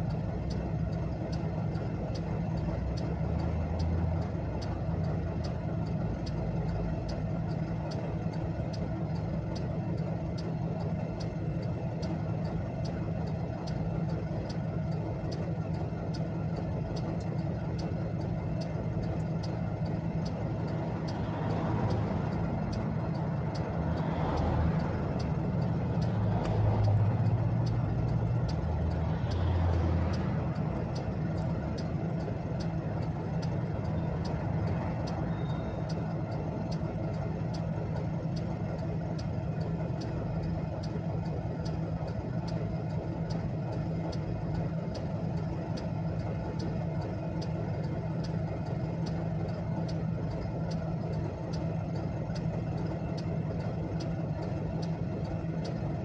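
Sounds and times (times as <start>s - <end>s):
hazard light flasher ticking: 0.0s - 56.0s
low engine hum: 0.0s - 56.0s.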